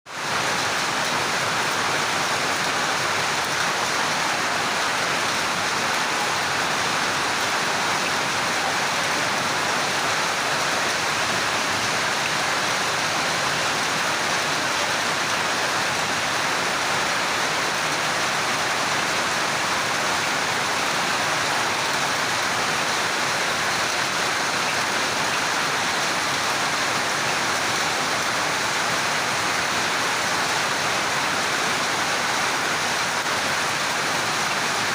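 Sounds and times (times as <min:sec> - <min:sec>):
heavy rain and hail: 0:00.1 - 0:34.9.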